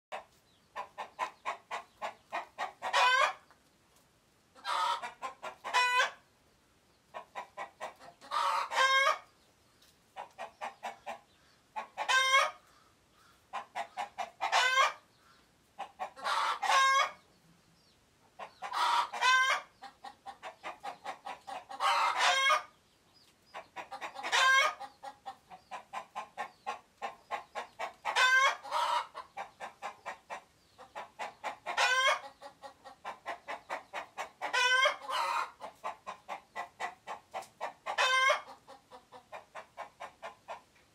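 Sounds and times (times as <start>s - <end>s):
chicken alarm call: 0.1s - 3.6s, 4.6s - 6.3s, 7.1s - 17.3s, 18.3s - 40.7s.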